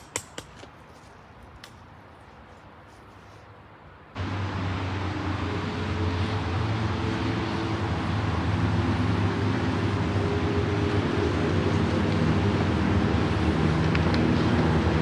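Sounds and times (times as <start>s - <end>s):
road and wind noise: 0.0s - 15.0s
vehicle engine hum: 0.0s - 15.0s.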